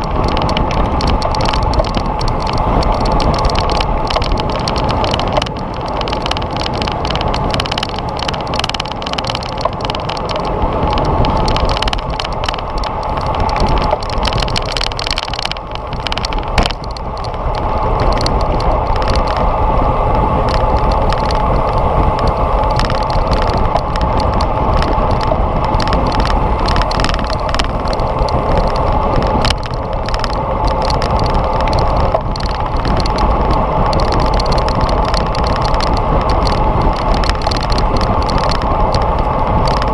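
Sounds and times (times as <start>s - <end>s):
small rattles and clicks: 0.0s - 39.9s
tyre-on-road noise: 0.0s - 39.9s
wind rush: 0.0s - 39.9s.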